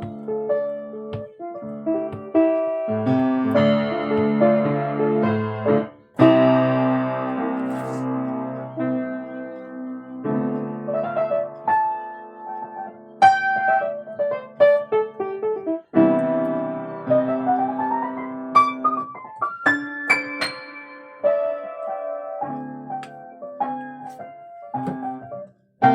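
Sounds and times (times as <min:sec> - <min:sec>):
solo piano keyboard music: 0:00.0 - 0:25.9.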